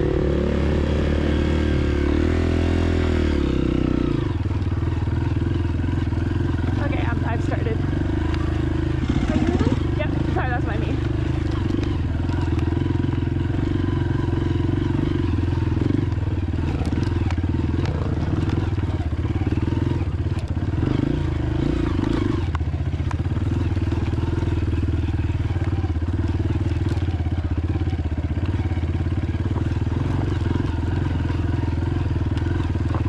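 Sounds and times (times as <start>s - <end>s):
dirt bike engine running: 0.0s - 33.0s
bike clicking and rattling: 3.2s - 33.0s.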